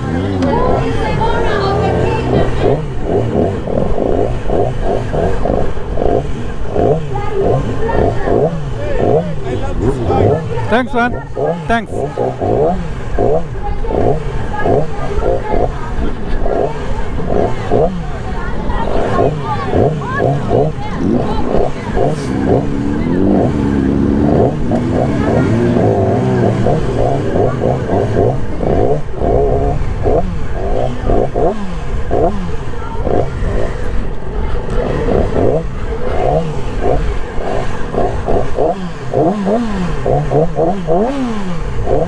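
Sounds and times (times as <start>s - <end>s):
motorcycle engines revving: 0.0s - 42.0s
voices: 0.0s - 42.0s.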